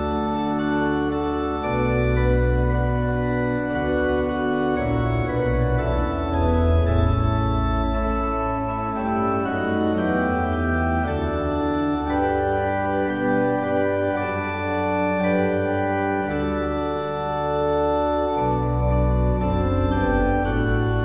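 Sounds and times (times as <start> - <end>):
church organ playing a hymn: 0.0 - 21.0.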